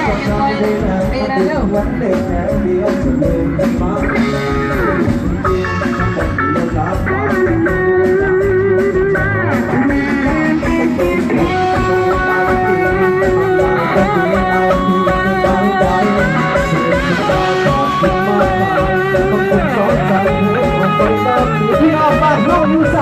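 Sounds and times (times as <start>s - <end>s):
live band playing instrumental: 0.0s - 23.0s.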